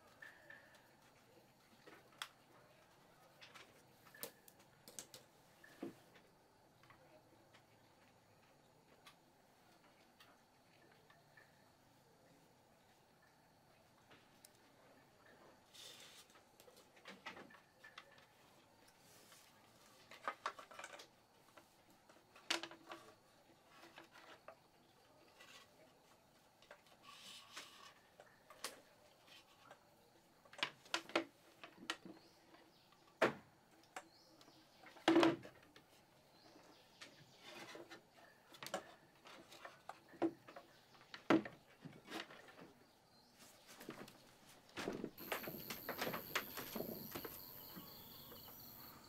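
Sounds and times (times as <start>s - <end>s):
faint steady background noise: 0.0s - 49.0s.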